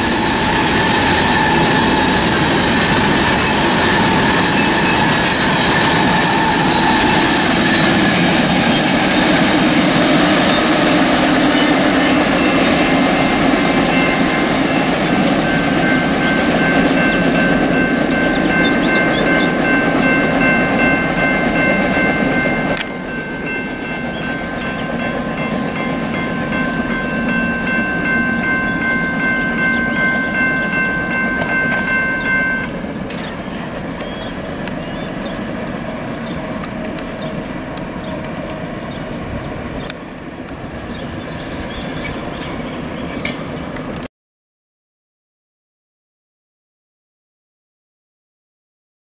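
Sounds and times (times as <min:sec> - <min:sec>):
crossing warning bell ringing: 0:00.0 - 0:44.0
freight train wheel and rail noise: 0:00.0 - 0:44.1.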